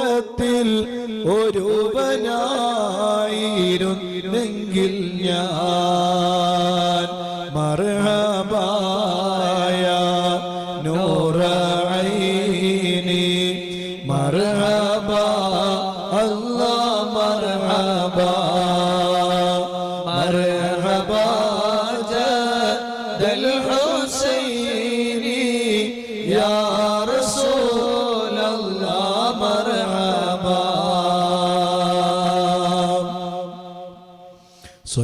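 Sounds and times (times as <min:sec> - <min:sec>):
person chanting: 0:00.0 - 0:35.0.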